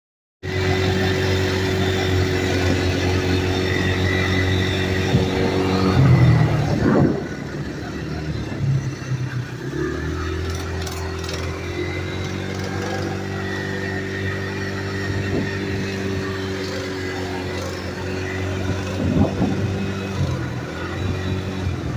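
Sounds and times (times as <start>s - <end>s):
small vehicle engine idling: 0.4s - 21.9s.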